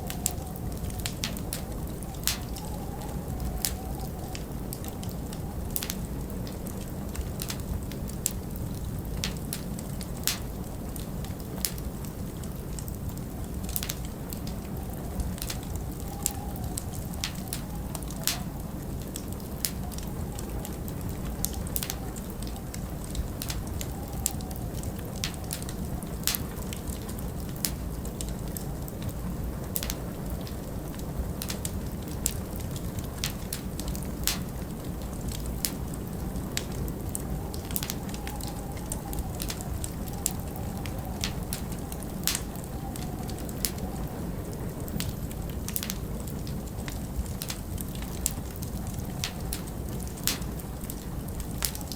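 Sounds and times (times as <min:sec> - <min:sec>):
low rumble of wind: 0:00.0 - 0:51.9
wood fire crackling and popping: 0:00.0 - 0:51.9.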